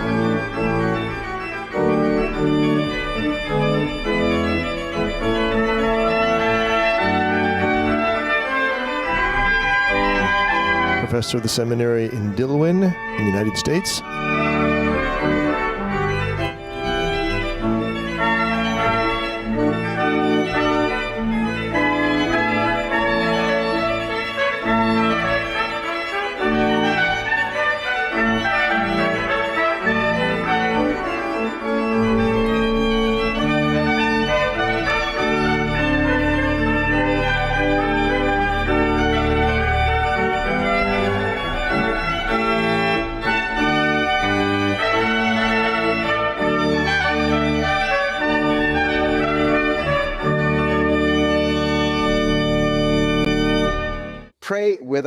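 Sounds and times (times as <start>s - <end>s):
organ playing slow chords: 0.0s - 54.3s.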